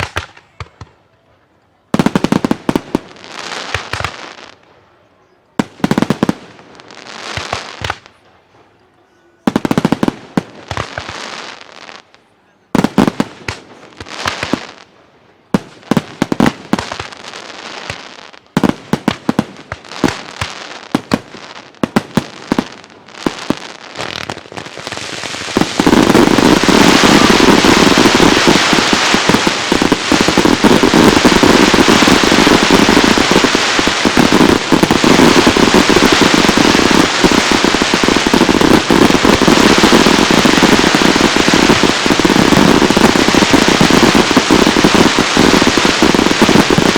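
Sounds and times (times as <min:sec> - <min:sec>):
fireworks bangs: 0:00.0 - 0:01.0, 0:01.9 - 0:04.9, 0:05.6 - 0:08.8, 0:09.4 - 0:12.1, 0:12.7 - 0:46.9
fireworks crackling: 0:00.0 - 0:01.1, 0:01.9 - 0:05.0, 0:05.6 - 0:46.9.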